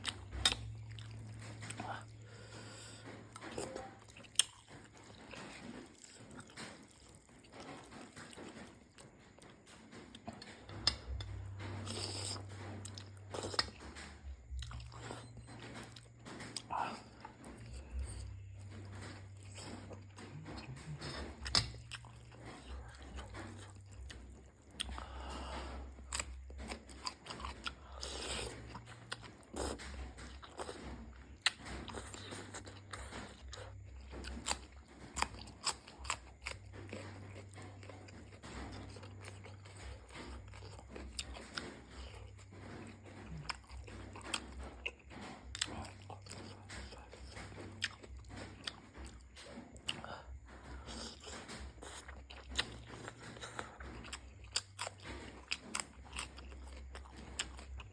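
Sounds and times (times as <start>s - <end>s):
person chewing and biting: 0.0s - 57.9s.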